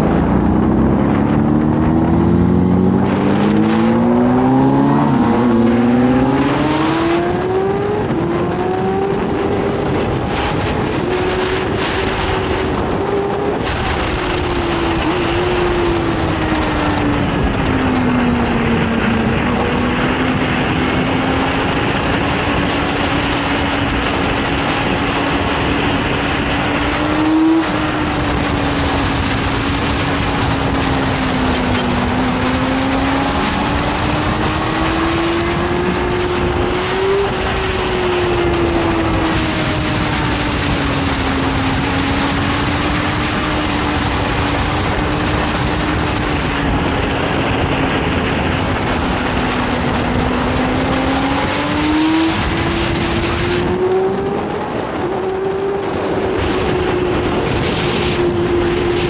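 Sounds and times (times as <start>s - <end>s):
heavy wind rush: 0.0s - 59.0s
motorcycle engine at high revs: 0.0s - 59.0s.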